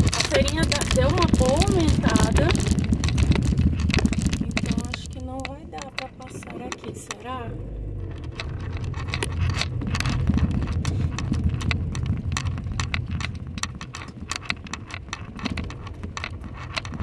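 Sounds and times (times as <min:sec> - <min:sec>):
car interior low rumble: 0:00.0 - 0:17.0
tyres clicking on cobblestones: 0:00.0 - 0:17.0.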